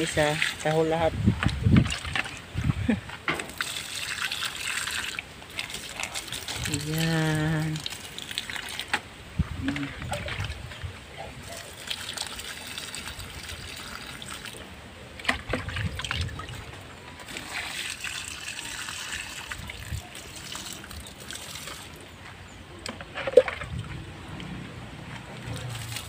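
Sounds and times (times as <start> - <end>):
water pouring onto plants: 0.0 - 9.0, 9.6 - 22.1, 25.4 - 26.0.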